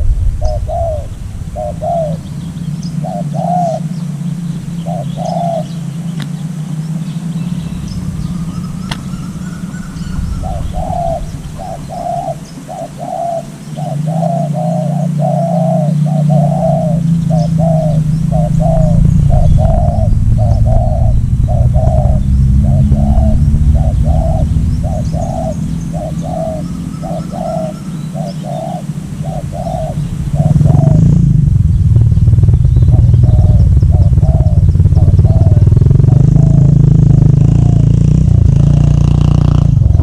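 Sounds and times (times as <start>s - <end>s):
dove cooing: 0.0s - 40.0s
low rumble: 0.0s - 40.0s.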